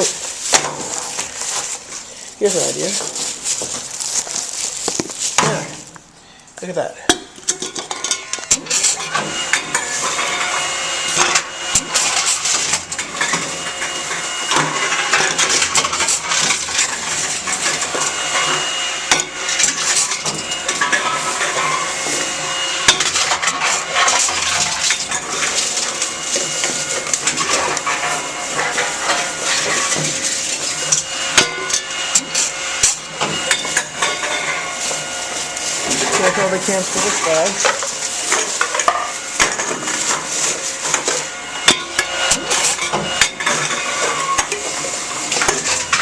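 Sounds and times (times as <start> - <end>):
machine hum: 8.2 - 46.0.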